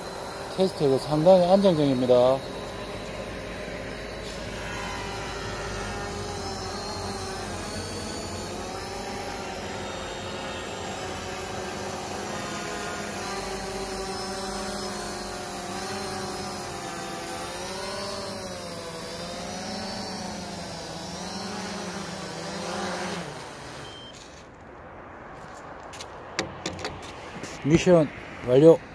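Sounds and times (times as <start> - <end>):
drone propellers buzzing: 0.0 - 24.2.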